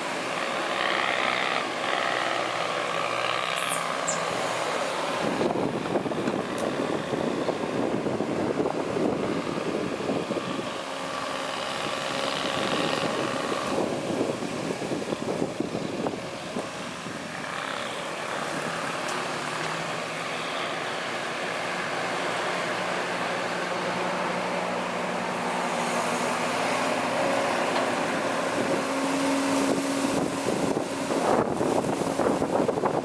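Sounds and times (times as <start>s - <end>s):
diesel machinery engine: 0.0s - 33.0s.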